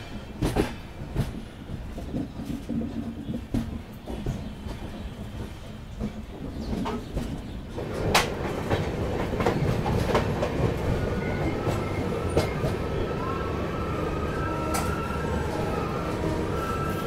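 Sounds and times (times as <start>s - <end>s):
clickety-clack over rail joints: 0.0s - 13.6s, 14.3s - 17.0s
train wheels rumbling: 0.0s - 17.0s.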